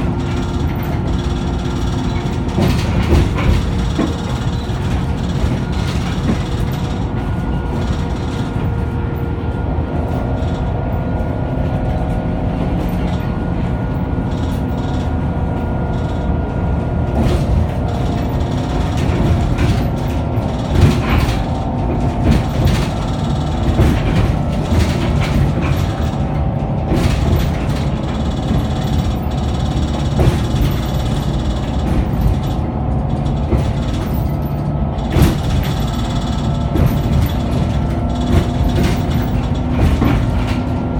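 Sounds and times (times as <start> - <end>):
body rattles and knocks: 0.0 - 40.9
bus engine drone: 0.0 - 40.9
drivetrain whining tones: 0.0 - 40.9.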